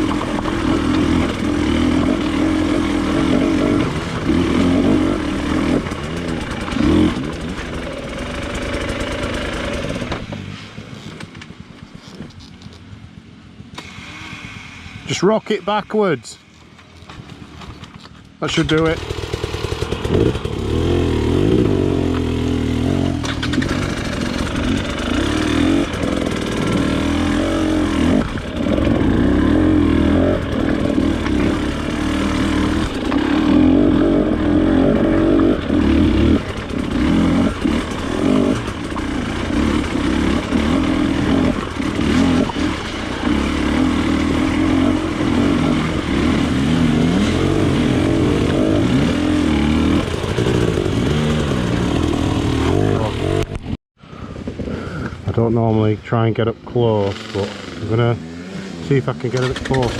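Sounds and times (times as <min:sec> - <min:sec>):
two-stroke motorcycle engine revving: 0:00.0 - 0:10.5, 0:18.5 - 0:53.8, 0:56.7 - 0:59.9.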